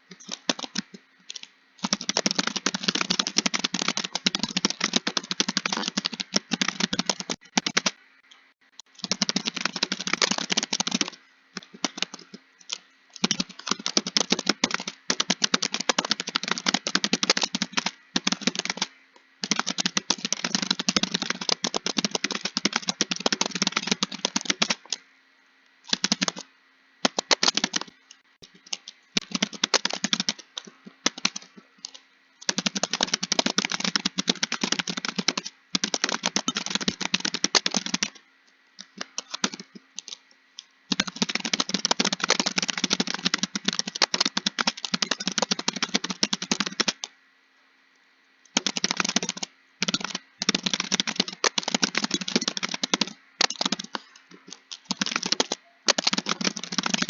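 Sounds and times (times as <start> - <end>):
fast typing on keyboard: 0.0 - 8.0, 8.9 - 25.0, 25.9 - 38.2, 38.8 - 40.2, 40.9 - 47.1, 48.6 - 57.0.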